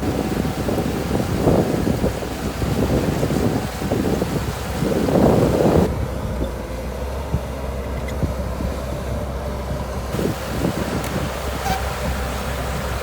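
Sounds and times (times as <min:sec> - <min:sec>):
bulldozer diesel engine running: 0:00.0 - 0:13.0
wind noise on microphone: 0:00.0 - 0:13.0.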